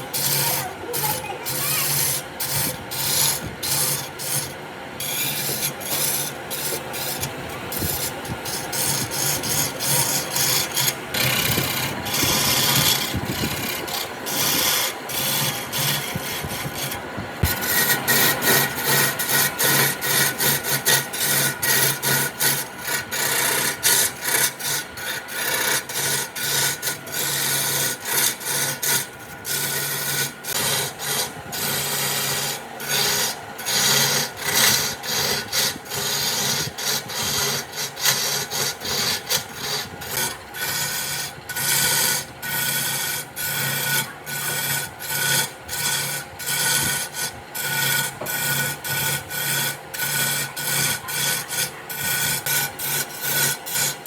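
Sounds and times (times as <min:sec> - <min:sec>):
wood being rasped by hand: 0:00.0 - 0:54.0.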